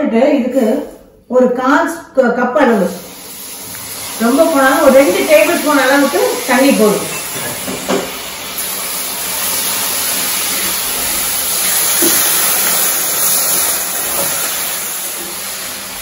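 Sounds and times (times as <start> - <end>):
sugar sizzling in a hot pan: 2.6 - 16.0.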